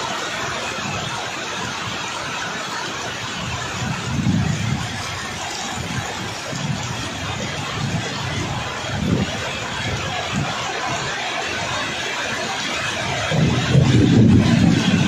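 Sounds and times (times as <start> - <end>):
heavy rain falling: 0.0 - 15.0
wind gusting against microphone: 0.0 - 15.0.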